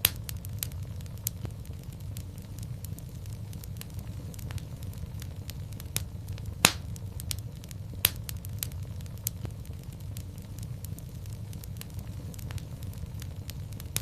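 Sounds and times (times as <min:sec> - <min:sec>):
loud fire pops: 0:00.0 - 0:14.0
wood fire crackling: 0:00.0 - 0:14.0.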